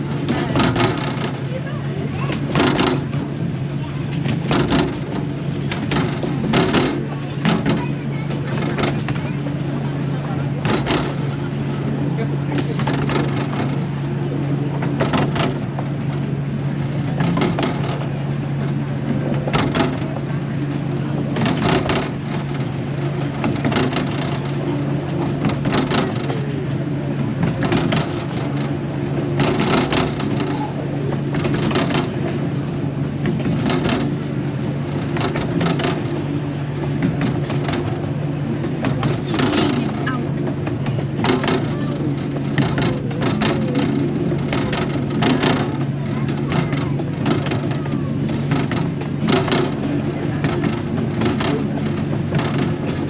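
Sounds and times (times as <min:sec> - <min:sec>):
train carriage hum: 0:00.0 - 0:53.0
wheels clacking over rail joints: 0:00.0 - 0:53.0.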